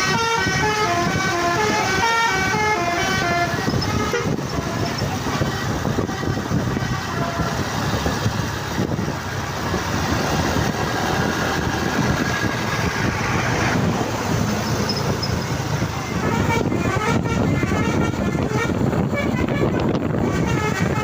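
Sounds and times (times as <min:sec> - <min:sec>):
bus engine running: 0:00.0 - 0:21.0
road traffic noise: 0:00.0 - 0:21.0.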